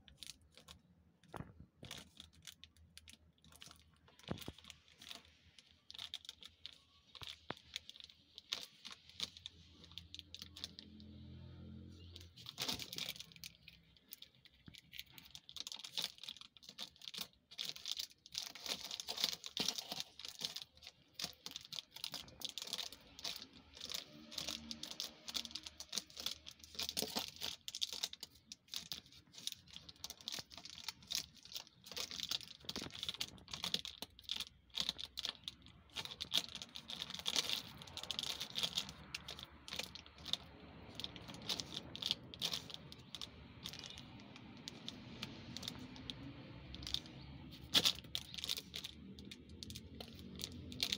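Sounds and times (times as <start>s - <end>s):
cat chewing crinkling packing tape: 0.0s - 50.9s.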